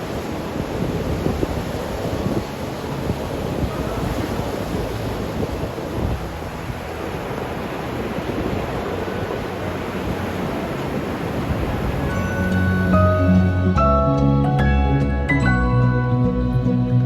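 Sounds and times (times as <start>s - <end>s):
wind buffeting microphone: 0.0s - 14.2s
ocean surf breaking: 0.0s - 17.0s.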